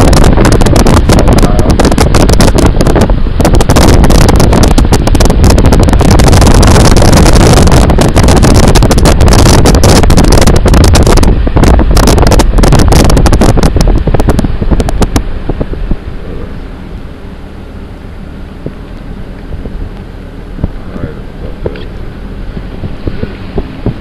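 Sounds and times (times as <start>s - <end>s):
distorted car rumble in snow: 0.0s - 24.0s.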